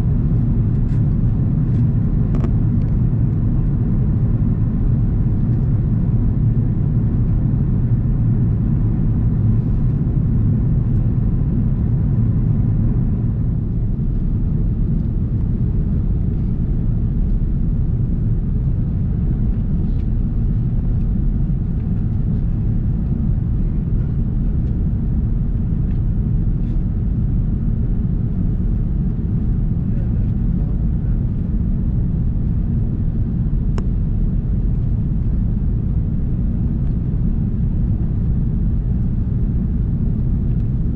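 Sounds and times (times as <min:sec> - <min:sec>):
low rumble of engines and airflow: 0:00.0 - 0:40.9.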